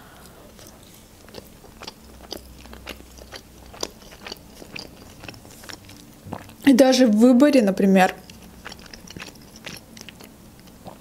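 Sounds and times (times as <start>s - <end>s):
person chewing dumplings: 0.0s - 6.7s, 7.9s - 11.0s.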